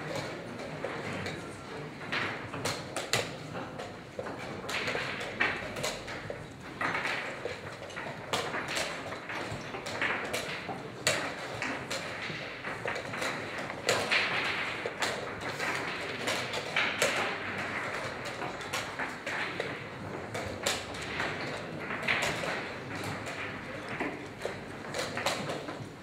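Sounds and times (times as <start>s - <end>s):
chess pieces knocking on board: 2.0s - 26.0s.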